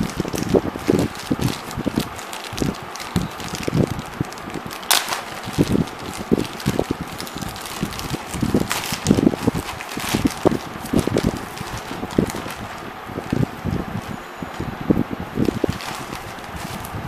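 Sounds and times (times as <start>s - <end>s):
plastic bag crinkling: 0.0s - 14.1s, 15.4s - 17.0s
plastic tearing crackle: 0.0s - 14.1s, 15.4s - 17.0s.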